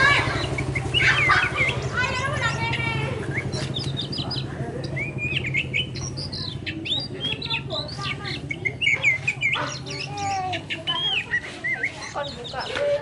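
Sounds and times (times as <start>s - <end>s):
bird singing chirps and whistles: 0.2s - 13.0s.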